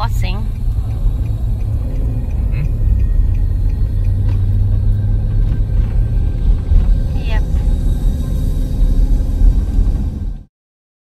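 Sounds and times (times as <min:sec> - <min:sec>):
car engine and tyre rumble: 0:00.0 - 0:10.5.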